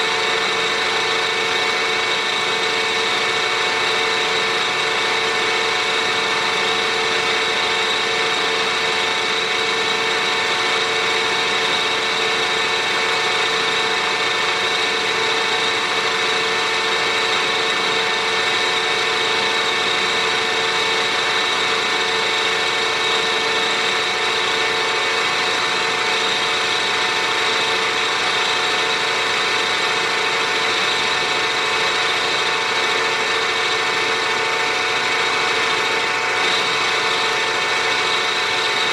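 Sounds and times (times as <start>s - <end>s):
milling machine whining: 0.0s - 38.9s.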